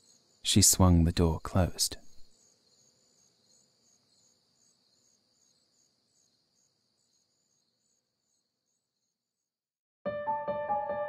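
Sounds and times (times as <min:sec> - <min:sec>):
crickets chirping: 0:00.0 - 0:09.4.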